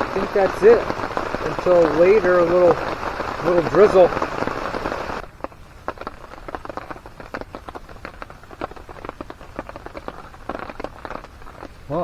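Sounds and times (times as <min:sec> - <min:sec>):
raindrops tapping and dripping: 0:00.0 - 0:12.0
soft rain hiss: 0:00.0 - 0:12.0.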